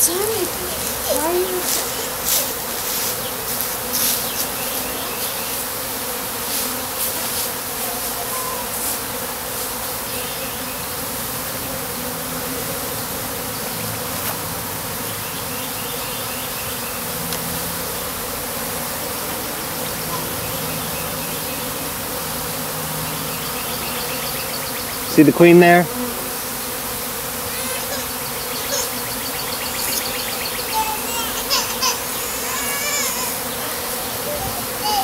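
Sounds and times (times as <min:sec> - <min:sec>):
bees humming: 0:00.0 - 0:35.0.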